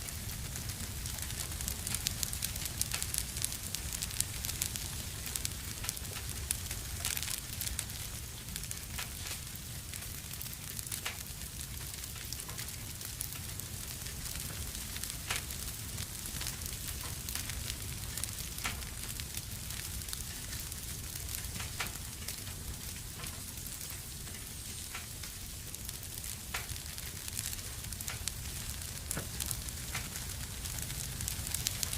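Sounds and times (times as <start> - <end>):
fire crackling: 0.0 - 31.9
fire popping: 0.0 - 31.9.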